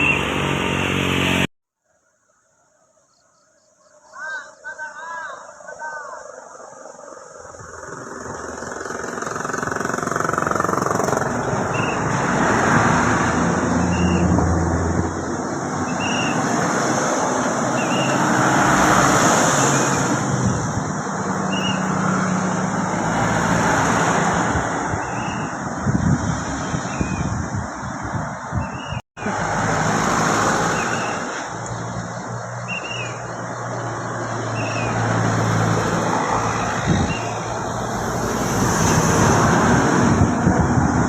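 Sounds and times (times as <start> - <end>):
vehicles passing by: 0.0 - 1.5, 7.2 - 41.0.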